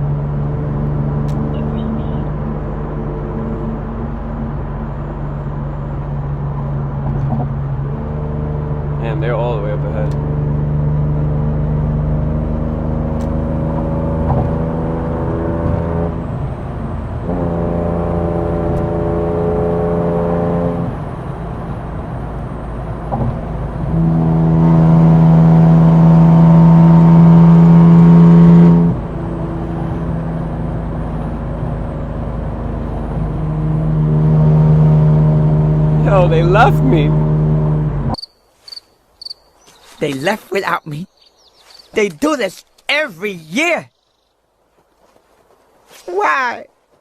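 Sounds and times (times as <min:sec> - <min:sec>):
car engine under throttle: 0:00.0 - 0:38.2.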